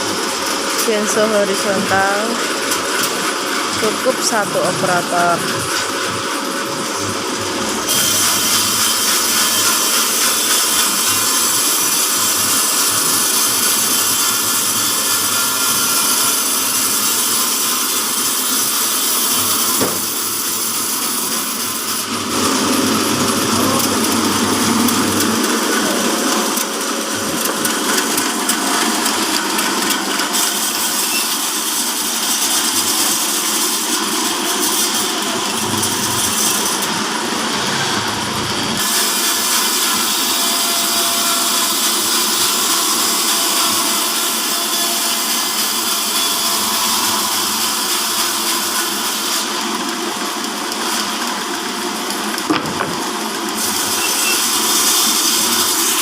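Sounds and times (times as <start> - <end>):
band saw cutting timber: 0.0 - 56.0.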